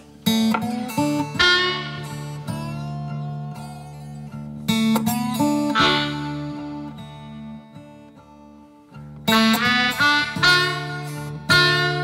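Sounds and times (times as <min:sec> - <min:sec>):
guitar plucked and strummed: 0:00.0 - 0:12.0.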